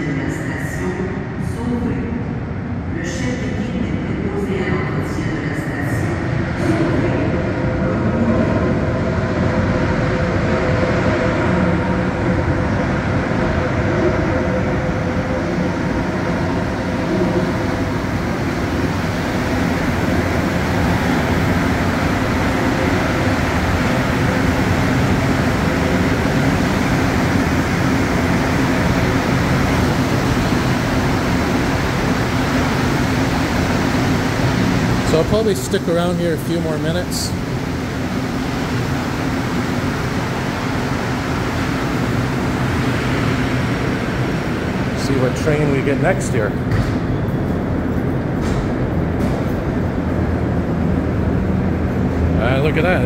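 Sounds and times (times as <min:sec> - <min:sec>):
metro train rumble with whine: 0:00.0 - 0:53.0.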